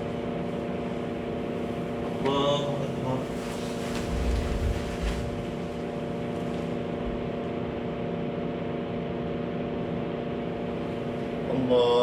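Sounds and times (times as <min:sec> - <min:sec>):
steady droning hum: 0:00.0 - 0:12.0.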